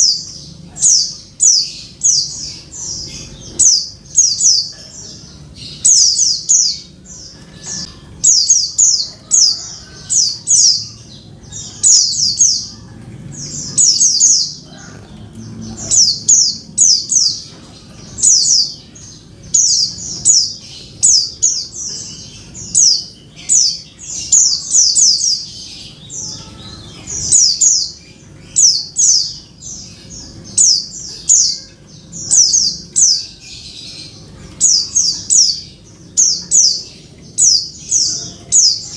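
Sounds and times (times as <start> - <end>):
bird chirping high calls: 0.0 - 38.9.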